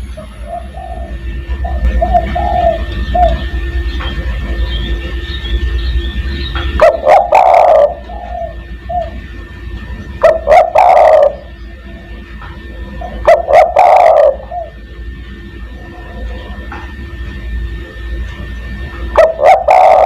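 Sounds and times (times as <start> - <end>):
low steady hum: 0.0 - 20.0
dove cooing: 0.2 - 17.0, 18.6 - 20.0.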